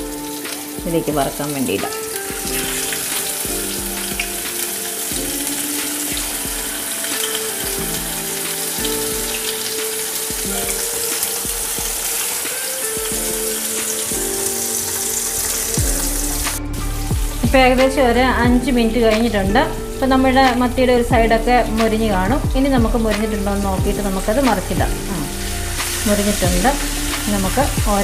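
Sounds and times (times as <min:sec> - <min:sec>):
fish sizzling in oil: 0:00.0 - 0:28.0
soft background music: 0:00.0 - 0:28.0.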